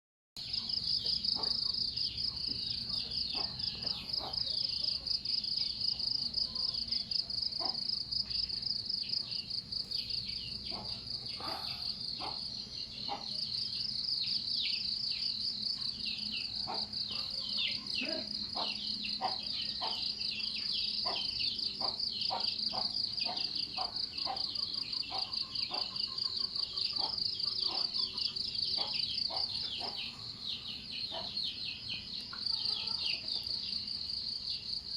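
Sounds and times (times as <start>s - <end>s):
bird chirps: 0.4s - 33.9s
insects trilling: 0.4s - 34.9s.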